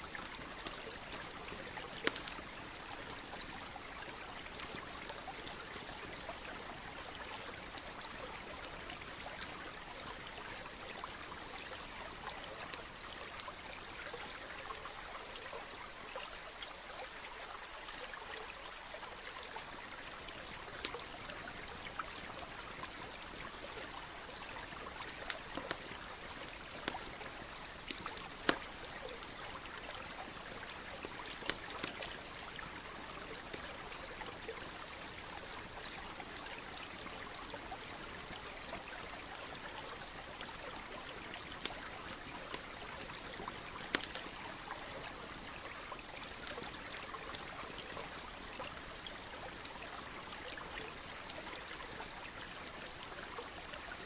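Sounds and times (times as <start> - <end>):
campfire crackling: 0.0 - 16.6, 19.0 - 54.0
stream flowing: 0.0 - 54.0.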